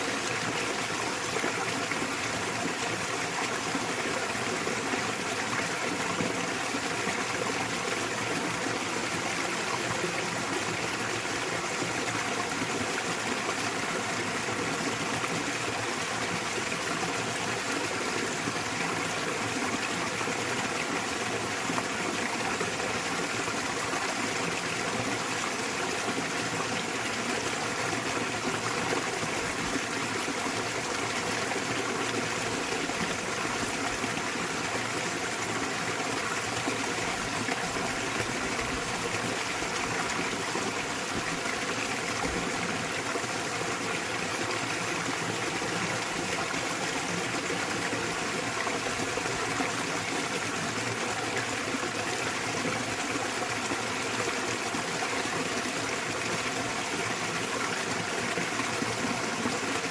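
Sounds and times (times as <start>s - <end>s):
small waterfall rushing and splashing: 0.0s - 59.9s.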